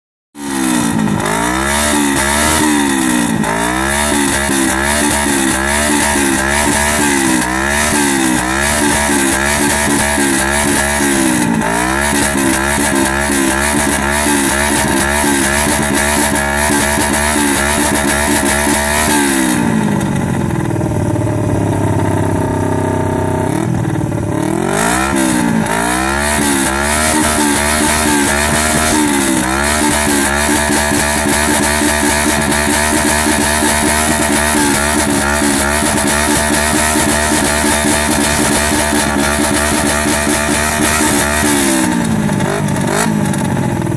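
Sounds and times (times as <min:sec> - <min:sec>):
motorcycle engine idling: 0:00.4 - 0:43.9
motorcycle engine revving: 0:00.4 - 0:43.9.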